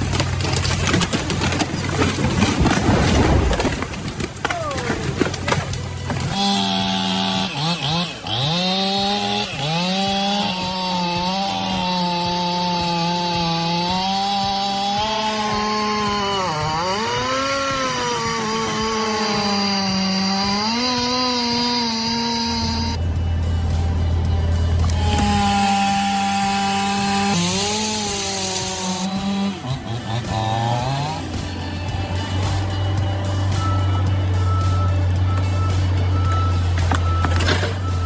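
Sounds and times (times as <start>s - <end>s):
chainsaw running: 0.0s - 38.0s.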